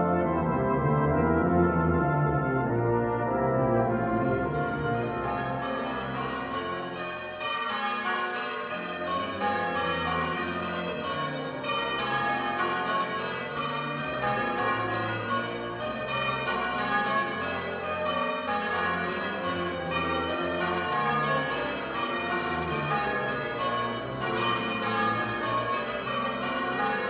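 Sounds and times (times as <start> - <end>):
church bells ringing: 0.0 - 27.0.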